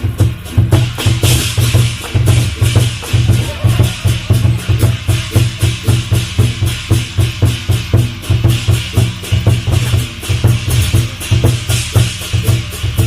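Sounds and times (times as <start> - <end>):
cymbal shimmer: 0.0 - 13.0
heavy low drumbeat: 0.0 - 13.0.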